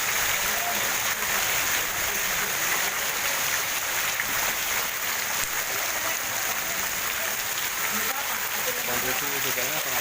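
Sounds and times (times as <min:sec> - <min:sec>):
heavy rain falling: 0:00.0 - 0:10.0
rainwater running across street: 0:00.0 - 0:10.0.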